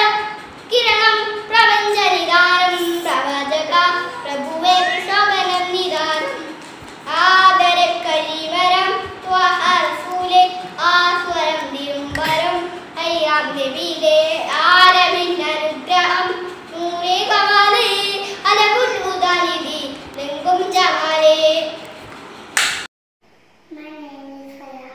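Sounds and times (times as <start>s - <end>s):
boy singing into microphone: 0.0s - 21.0s.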